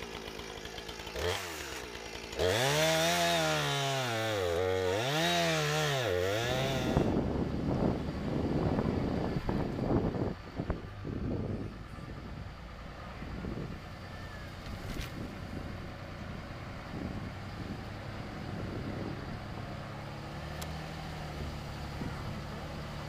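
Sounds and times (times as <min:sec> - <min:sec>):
vehicle engine hum: 0:03.4 - 0:23.0.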